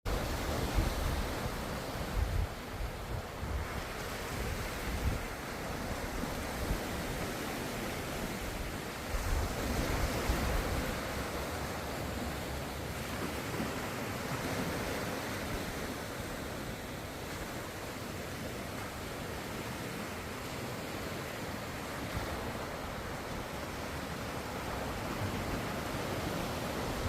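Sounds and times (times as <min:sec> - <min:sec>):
ocean waves washing on shore: 0:00.1 - 0:27.0.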